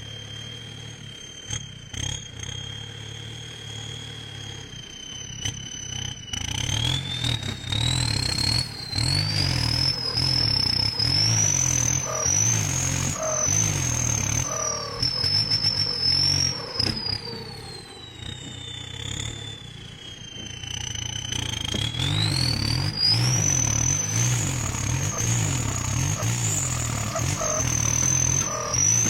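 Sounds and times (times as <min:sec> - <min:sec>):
high whine: 0:00.0 - 0:29.0
tractor engine under load: 0:00.0 - 0:29.0.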